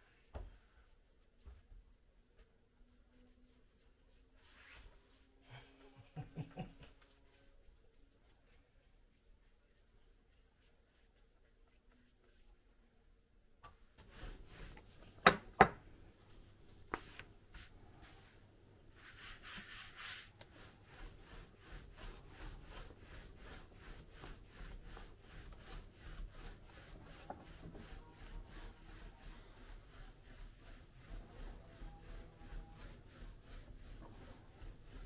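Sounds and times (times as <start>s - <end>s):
rhythmic rubbing of dough: 2.2s - 13.2s, 14.0s - 35.0s.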